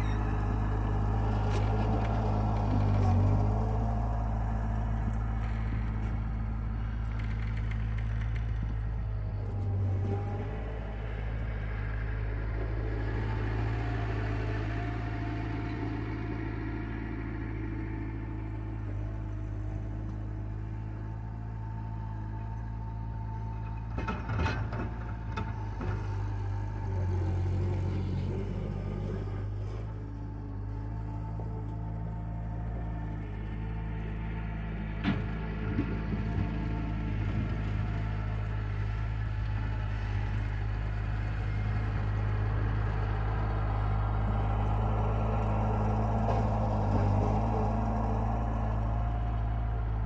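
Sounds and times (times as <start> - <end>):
distant skid steer engine: 0.0 - 50.0.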